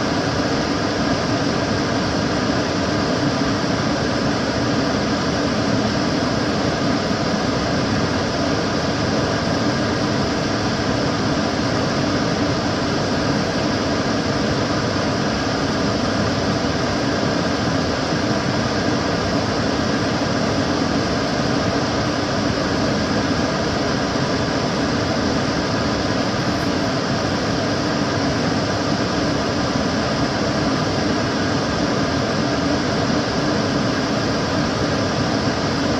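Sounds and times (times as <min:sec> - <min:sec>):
extractor fan running: 0:00.0 - 0:35.9.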